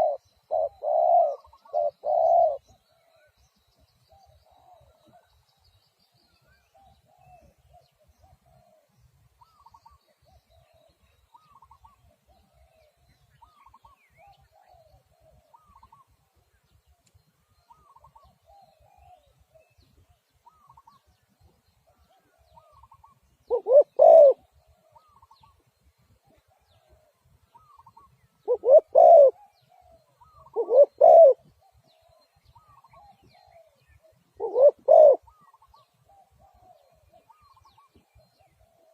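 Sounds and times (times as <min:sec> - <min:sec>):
close dove cooing: 0:00.0 - 0:03.4, 0:04.1 - 0:05.3, 0:06.4 - 0:16.4, 0:17.5 - 0:21.1, 0:21.9 - 0:38.9
faint dove cooing: 0:00.0 - 0:03.4, 0:04.1 - 0:05.5, 0:06.2 - 0:21.2, 0:21.8 - 0:38.9.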